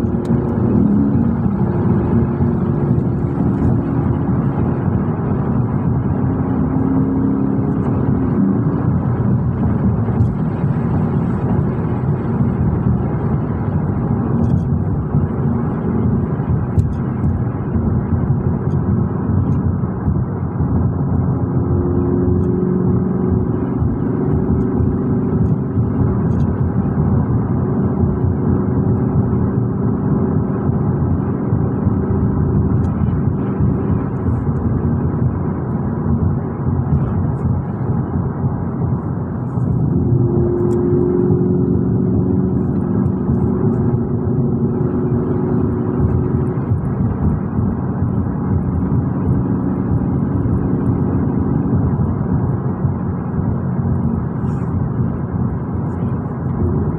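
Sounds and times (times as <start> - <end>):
car engine hum: 0.0 - 56.9
road noise: 0.0 - 56.9.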